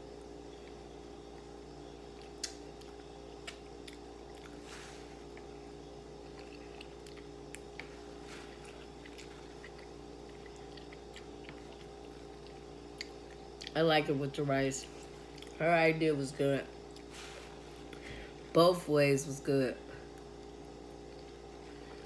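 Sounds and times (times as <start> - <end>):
steady low hum: 0.0 - 22.0
chewing and wet mouth sounds: 0.2 - 14.1, 14.8 - 15.6, 16.7 - 18.5, 20.0 - 22.0.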